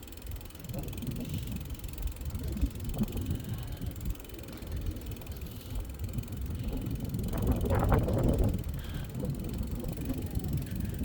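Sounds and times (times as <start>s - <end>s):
bicycle knocks and rattles: 0.0s - 11.0s
bicycle tyre rumble: 0.0s - 11.0s
wind on microphone: 0.5s - 11.0s.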